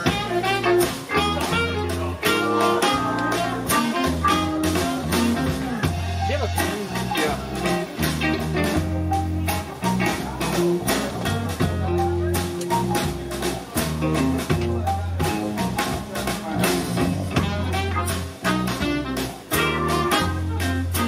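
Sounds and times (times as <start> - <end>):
live band through loudspeakers: 0.0 - 21.0.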